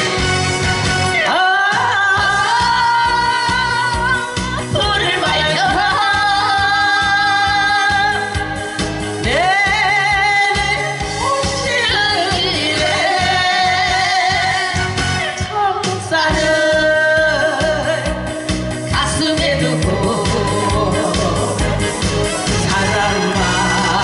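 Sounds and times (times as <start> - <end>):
backing track with steady beat: 0.0 - 24.0
woman singing into microphone: 1.0 - 24.0.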